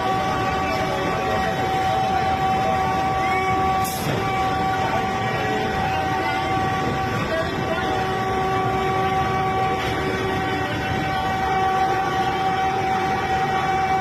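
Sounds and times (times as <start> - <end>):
constant whining tones: 0.0 - 14.0
train rumble and rush: 0.0 - 14.0.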